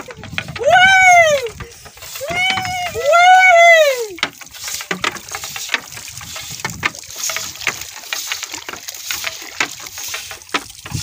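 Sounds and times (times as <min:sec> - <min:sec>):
knocks and drips from fishing net: 0:00.0 - 0:11.0
water splashing and sloshing: 0:00.0 - 0:11.0.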